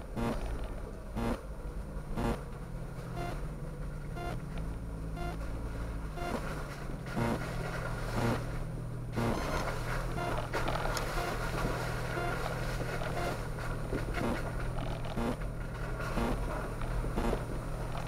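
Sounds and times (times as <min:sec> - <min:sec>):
engine running at low crawl: 0:00.0 - 0:18.0.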